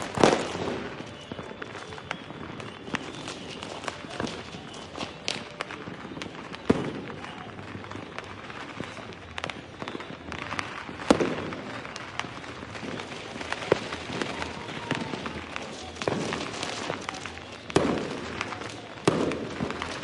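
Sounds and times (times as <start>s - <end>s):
fireworks bangs and pops: 0.0s - 20.0s
fireworks crackle: 0.0s - 20.0s.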